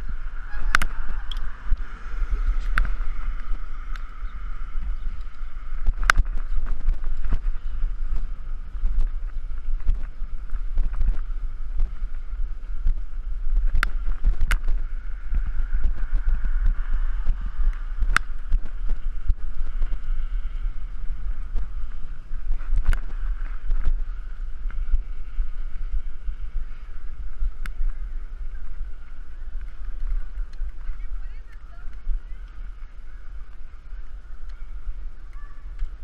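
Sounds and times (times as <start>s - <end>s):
bicycle rattling and clicking: 0.0s - 36.0s
wind buffeting microphone: 0.0s - 36.0s.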